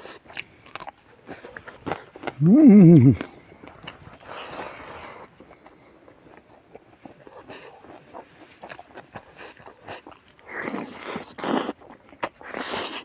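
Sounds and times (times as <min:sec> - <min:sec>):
wet chewing sounds: 0:00.0 - 0:13.0.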